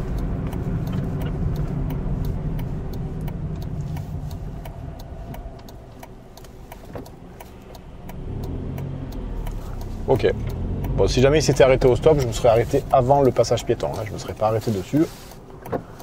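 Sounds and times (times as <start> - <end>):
car engine and road noise: 0.0 - 16.0
turn signal relay clicking: 0.0 - 16.0.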